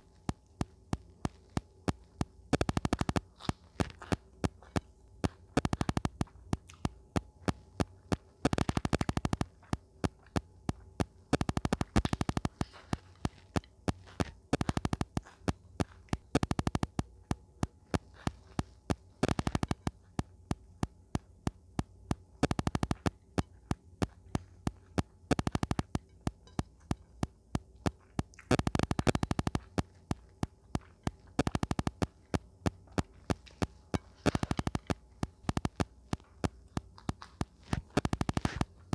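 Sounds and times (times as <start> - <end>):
crunchy chewing bursts: 0.0 - 38.9
wet chewing mouth clicks: 0.0 - 38.9.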